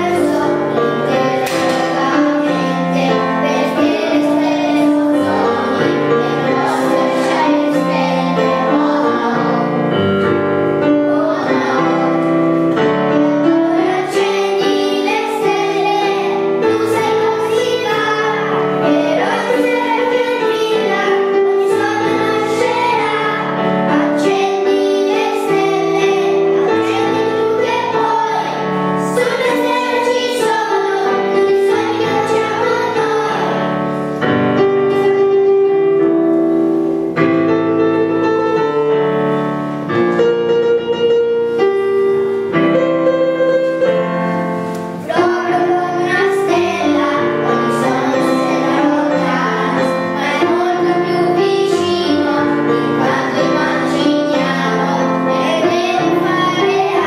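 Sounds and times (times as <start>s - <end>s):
children singing: 0.0s - 34.3s, 44.6s - 57.0s
piano accompaniment: 0.0s - 57.0s.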